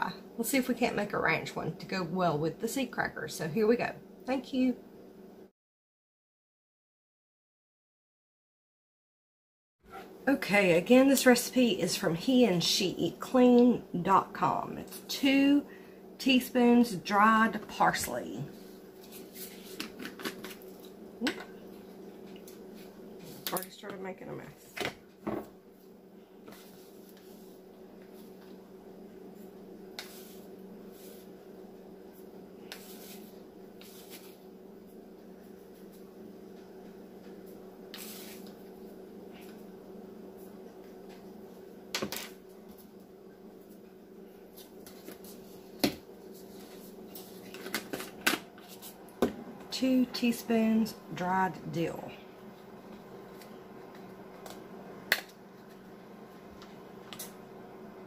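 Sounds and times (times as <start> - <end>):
faint steady hum: 9.9 - 58.0.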